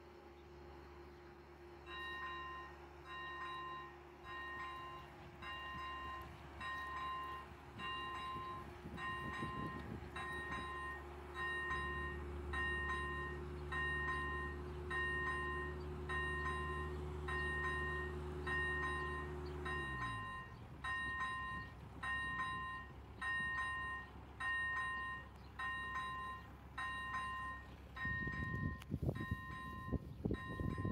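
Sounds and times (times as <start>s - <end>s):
engine idling: 0.0s - 30.9s
level crossing warning bells: 0.9s - 30.9s.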